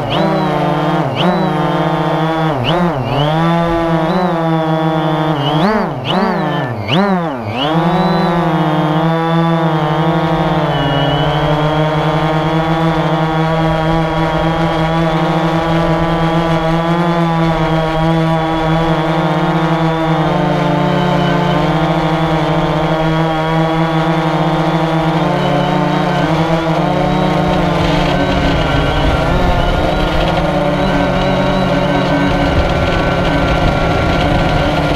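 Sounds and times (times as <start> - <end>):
drone propellers buzzing: 0.0 - 34.9.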